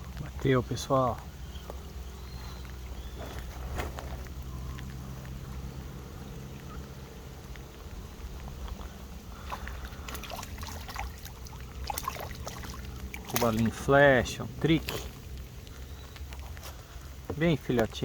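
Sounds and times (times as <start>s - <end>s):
small splashes and clicks: 0.0s - 18.0s
steady low rumble: 0.0s - 18.0s
water splashing and trickling: 0.0s - 18.0s.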